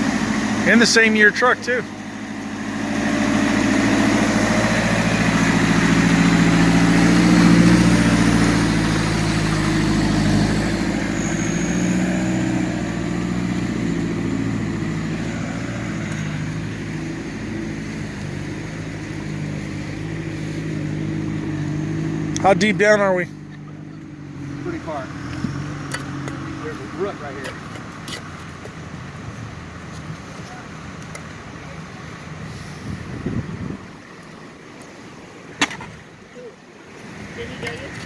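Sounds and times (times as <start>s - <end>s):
vehicle engine running at low revs: 0.0s - 38.0s.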